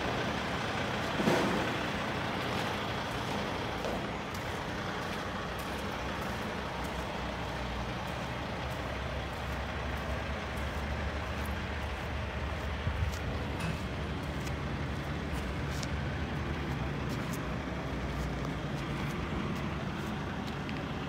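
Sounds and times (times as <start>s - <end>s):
diesel truck engine idling: 0.0s - 21.0s.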